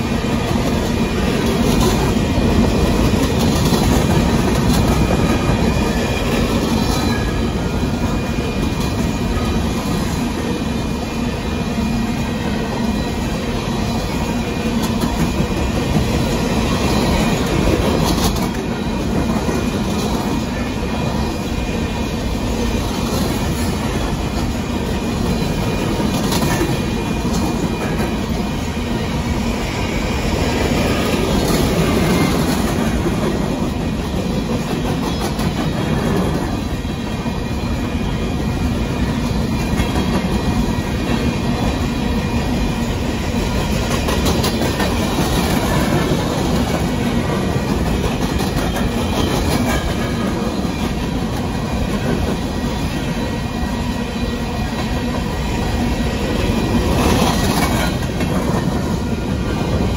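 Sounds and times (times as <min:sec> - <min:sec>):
clickety-clack over rail joints: 0:00.0 - 0:59.9
rumble of train wheels on rail: 0:00.0 - 0:59.9.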